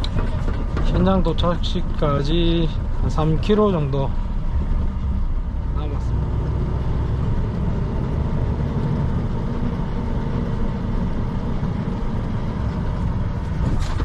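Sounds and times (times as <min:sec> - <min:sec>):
tow truck engine and road noise: 0:00.0 - 0:14.0.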